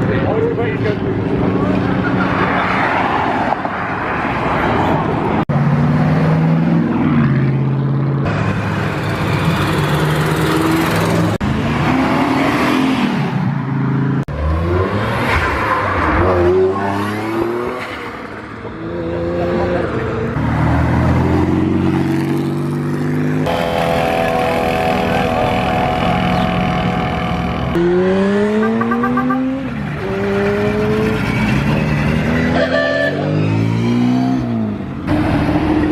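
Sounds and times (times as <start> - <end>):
cars accelerating hard: 1.2 - 35.9.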